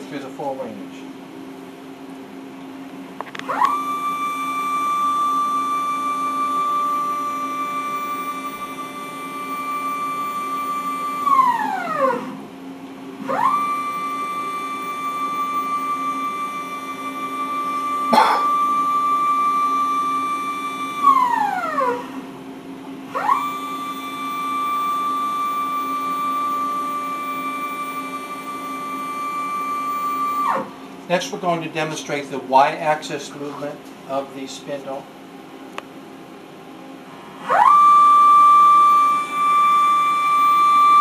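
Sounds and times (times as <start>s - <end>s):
machine drive whine: 0.0s - 41.0s.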